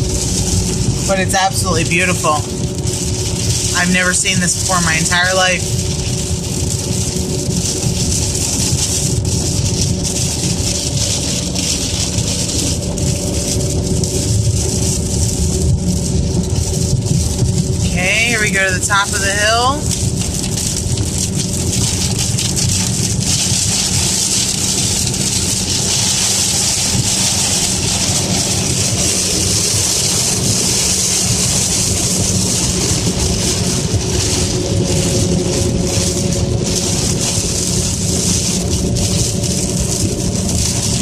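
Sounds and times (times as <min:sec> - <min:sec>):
heavy rain hitting a car: 0:00.0 - 0:41.0
road and engine noise: 0:00.0 - 0:41.0.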